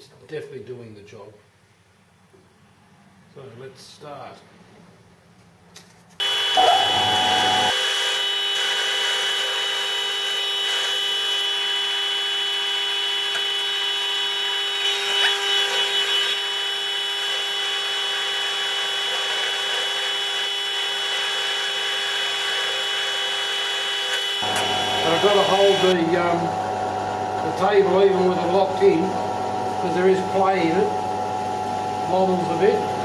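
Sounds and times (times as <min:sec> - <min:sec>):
milling machine high whine: 0:06.2 - 0:33.0.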